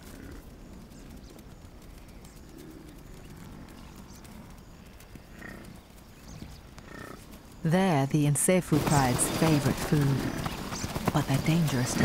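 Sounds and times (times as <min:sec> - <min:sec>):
hooves thudding on dry ground: 0:00.0 - 0:12.0.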